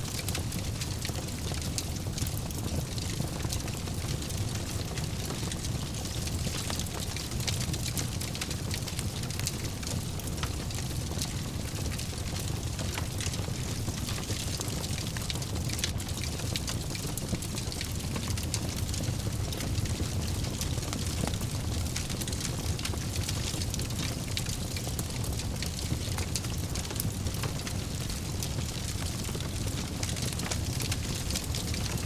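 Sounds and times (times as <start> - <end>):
fireplace fire crackling and popping: 0.0 - 32.0.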